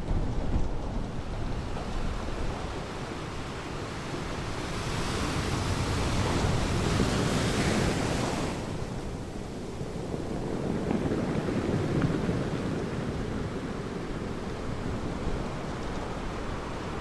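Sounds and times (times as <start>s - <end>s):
low rumble of surf: 0.0s - 17.0s
wave breaking on shore: 0.0s - 17.0s
wind: 0.0s - 17.0s.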